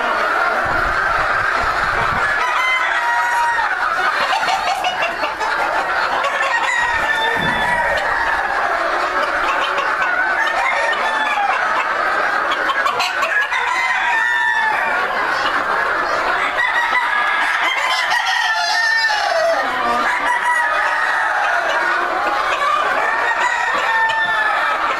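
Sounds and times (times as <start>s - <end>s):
chickens clucking: 0.0s - 24.9s
roosters crowing: 0.0s - 24.9s.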